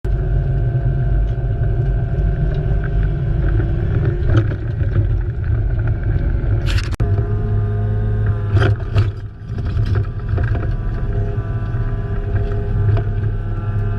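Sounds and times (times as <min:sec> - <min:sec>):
diesel engine low rumble: 0:00.0 - 0:13.9.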